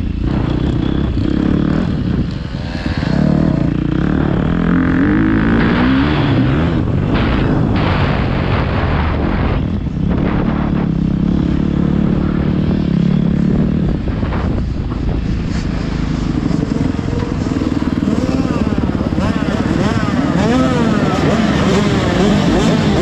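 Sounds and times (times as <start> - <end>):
dirt bike engine running hard: 0.0 - 23.0.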